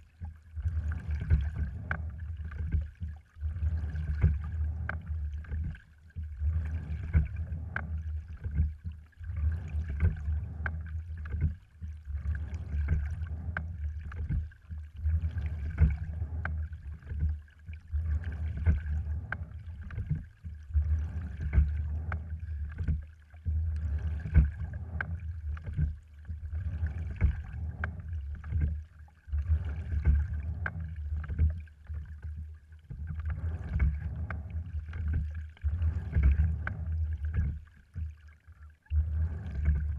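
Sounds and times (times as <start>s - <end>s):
steady low rumble: 0.0s - 39.9s
water washing along hull: 0.0s - 39.9s.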